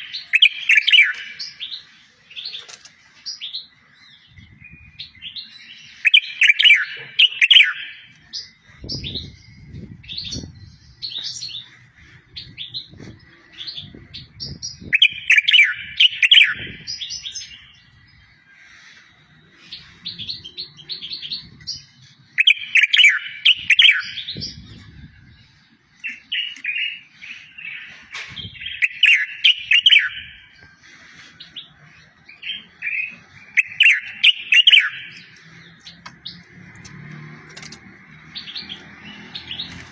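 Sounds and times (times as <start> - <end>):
songbird warbling: 0.0 - 2.8, 5.1 - 36.5
bird chirps and trills: 0.0 - 39.9.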